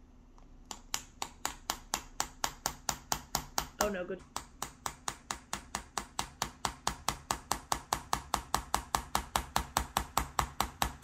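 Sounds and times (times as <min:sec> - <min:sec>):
hammer tapping nails: 0:00.7 - 0:11.0.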